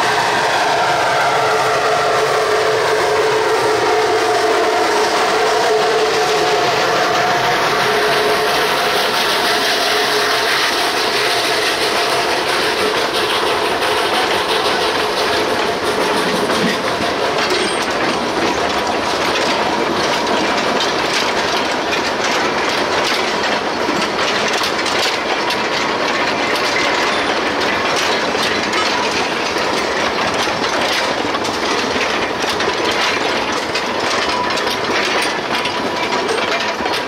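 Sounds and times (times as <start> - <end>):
train wheels clattering on rail joints: 0.0 - 37.0.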